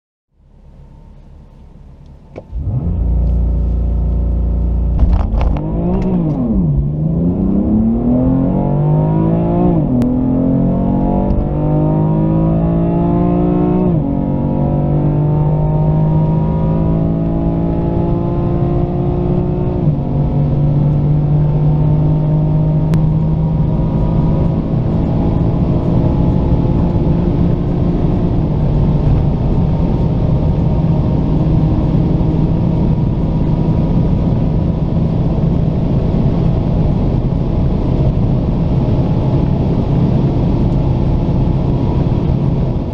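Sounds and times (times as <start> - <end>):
car engine at full throttle: 0.4 - 42.9.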